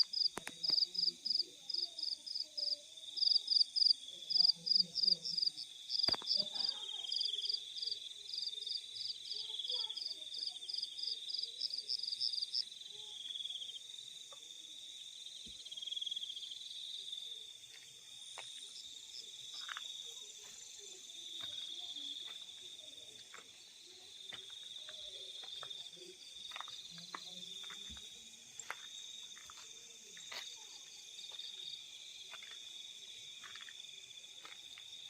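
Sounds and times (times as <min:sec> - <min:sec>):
insect rapid chirps: 0:00.0 - 0:35.0.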